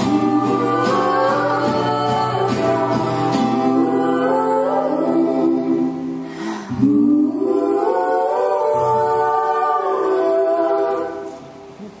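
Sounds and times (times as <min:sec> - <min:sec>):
people singing in close harmony: 0:00.0 - 0:12.0.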